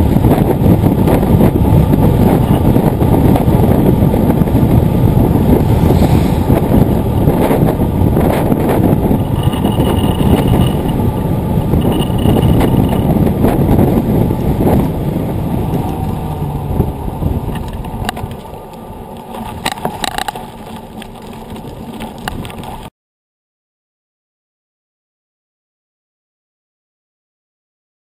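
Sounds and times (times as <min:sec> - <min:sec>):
bike tyres rumbling: 0:00.0 - 0:22.9
wind rushing on microphone: 0:00.0 - 0:22.9.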